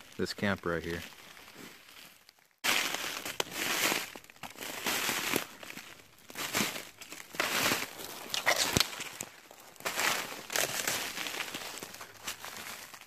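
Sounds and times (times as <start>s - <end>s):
footsteps crunching through snow: 0.0s - 13.0s.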